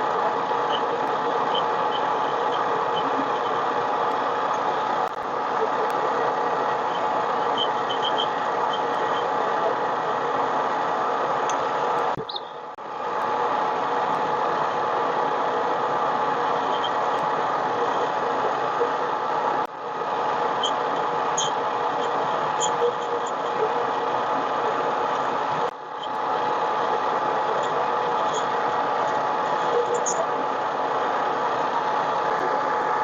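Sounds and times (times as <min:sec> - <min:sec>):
lathe motor whine: 0:00.0 - 0:33.0.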